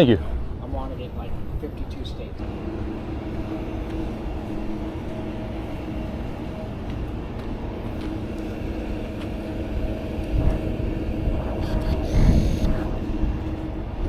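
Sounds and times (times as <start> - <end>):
vehicle engine running: 2.4 - 14.0.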